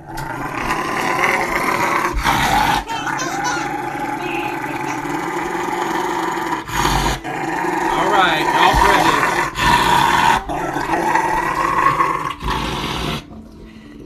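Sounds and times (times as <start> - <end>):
dog growling: 0.0 - 13.4.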